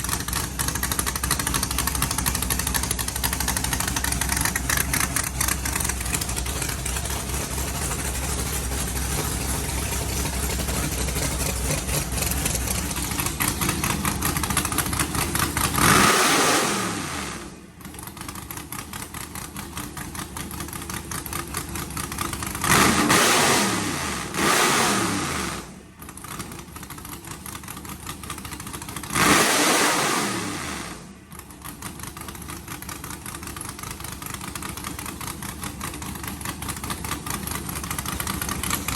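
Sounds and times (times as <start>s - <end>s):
engine idling and revving: 0.0s - 38.9s.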